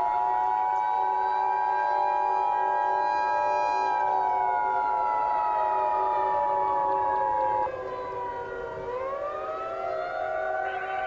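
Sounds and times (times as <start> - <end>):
tornado siren wailing: 0.0 - 11.0.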